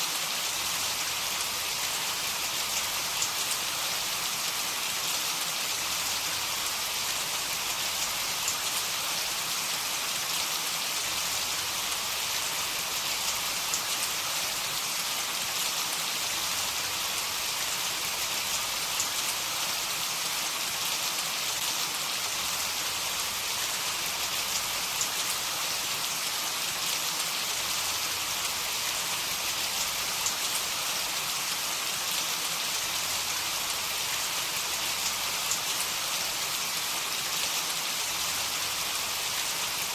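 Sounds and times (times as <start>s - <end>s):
heavy rain falling: 0.4s - 39.9s.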